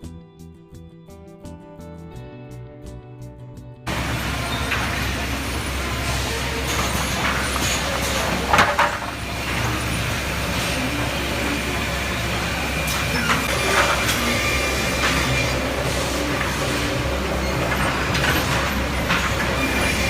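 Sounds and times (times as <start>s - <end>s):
sawmill machinery humming: 3.9s - 20.0s.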